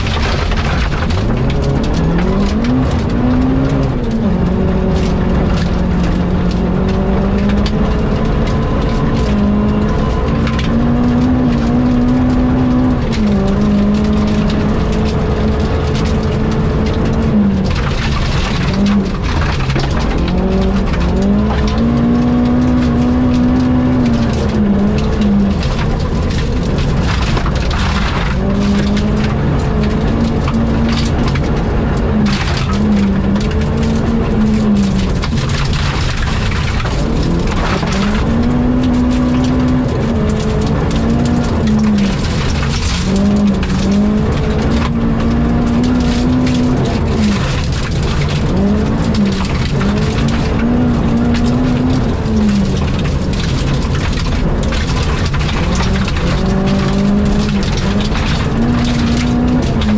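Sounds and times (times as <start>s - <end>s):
rally car engine running hard: 0.0s - 59.9s
tyre and road noise: 0.0s - 59.9s.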